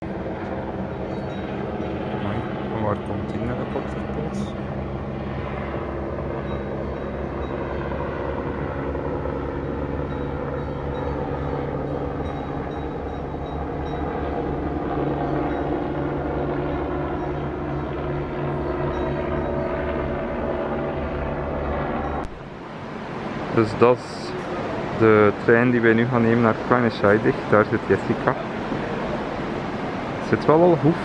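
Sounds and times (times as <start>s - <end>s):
small aircraft engine drone: 0.0s - 31.0s.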